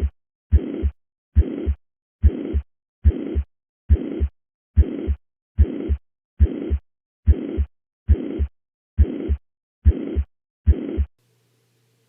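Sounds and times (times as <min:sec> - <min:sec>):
heartbeat thumps: 0:00.0 - 0:11.2
high-pitched heart murmur: 0:00.0 - 0:11.2.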